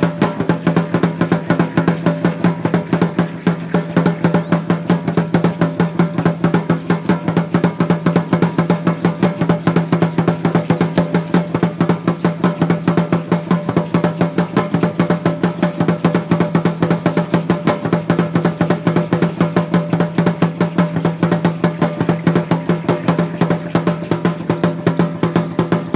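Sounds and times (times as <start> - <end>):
large wooden drum beaten: 0.0 - 25.9.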